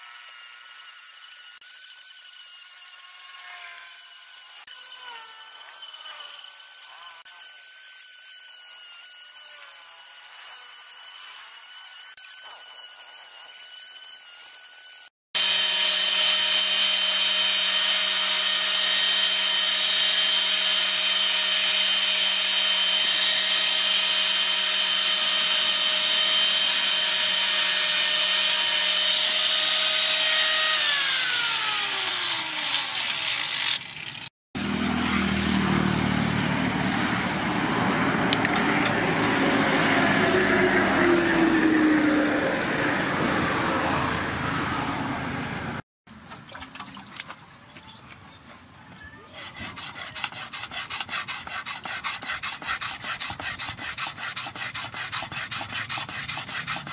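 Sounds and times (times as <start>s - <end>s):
angle grinder sanding wood: 0.0s - 44.3s, 49.3s - 56.9s.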